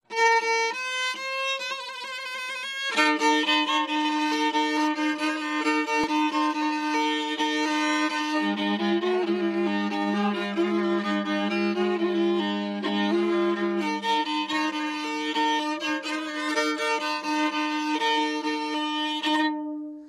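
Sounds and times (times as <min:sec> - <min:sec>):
violin playing slow folk melody: 0:00.0 - 0:20.0.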